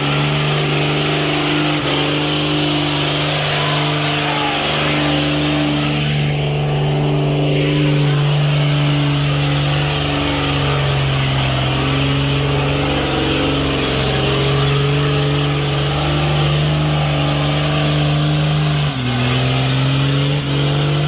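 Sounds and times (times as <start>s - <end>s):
diesel truck engine under load: 0.0s - 21.0s.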